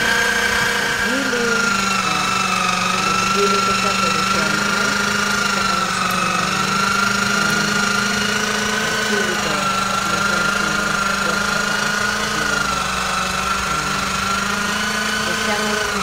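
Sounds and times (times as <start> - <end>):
electric meat grinder running: 0.0 - 16.0.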